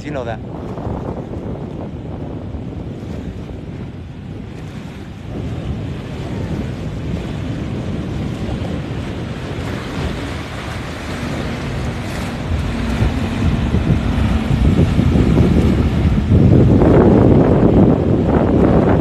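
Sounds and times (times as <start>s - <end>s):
boat engine droning: 0.0s - 19.0s
surf: 0.0s - 19.0s
wind buffeting microphone: 0.0s - 19.0s.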